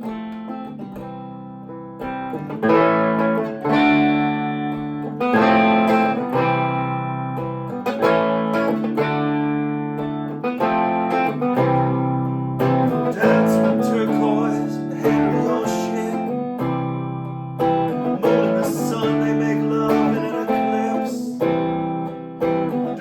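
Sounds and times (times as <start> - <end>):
guitar strumming chords: 0.0 - 23.0.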